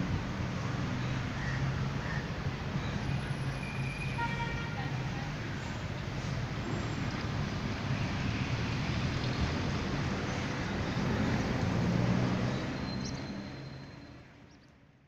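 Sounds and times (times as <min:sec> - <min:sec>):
road traffic rushing: 0:00.0 - 0:14.4.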